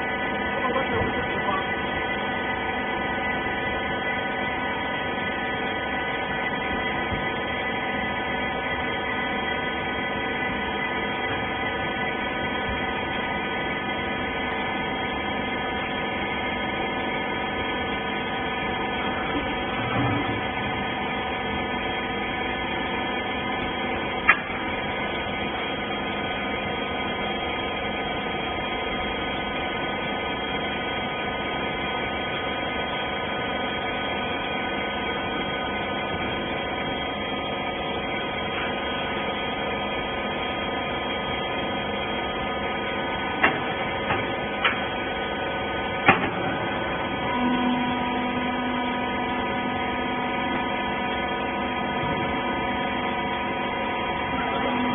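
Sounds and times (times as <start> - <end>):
hydraulic power unit humming: 0.0 - 54.9.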